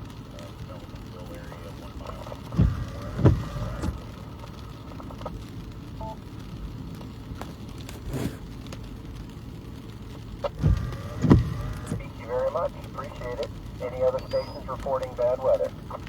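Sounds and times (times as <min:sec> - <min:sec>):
radio hissing and crackling: 0:00.0 - 0:16.0.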